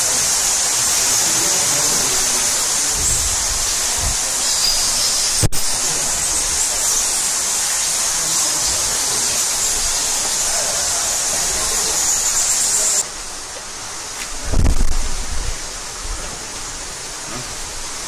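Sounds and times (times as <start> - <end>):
rushing falling water: 0.0 - 18.0.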